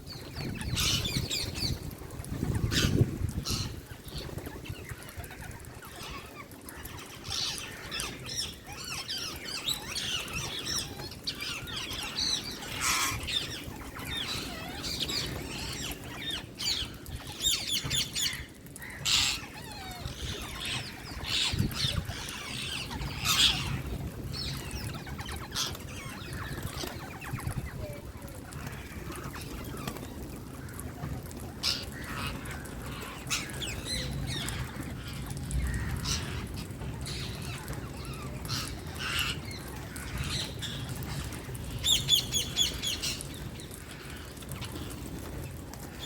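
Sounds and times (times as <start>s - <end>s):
parakeets chirping and squawking: 0.1s - 46.0s.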